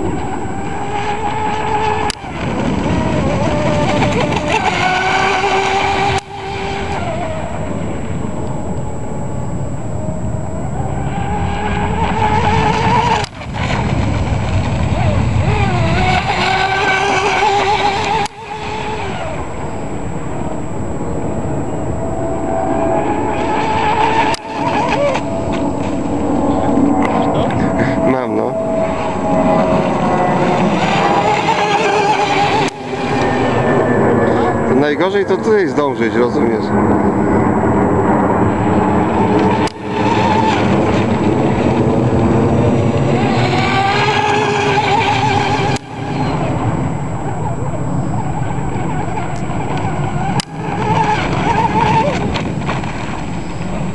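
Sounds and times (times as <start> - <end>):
toy boat motor whining: 0.0 - 35.6, 38.4 - 53.8.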